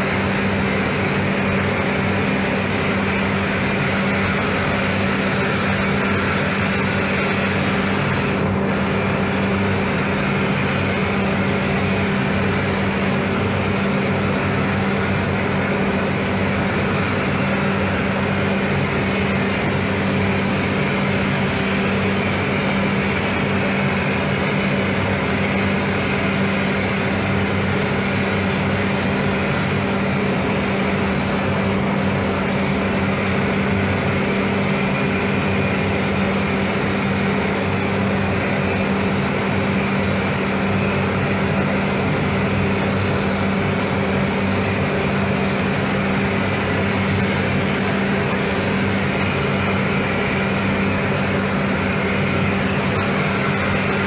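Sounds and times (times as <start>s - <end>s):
ventilation fans humming: 0.0s - 54.0s.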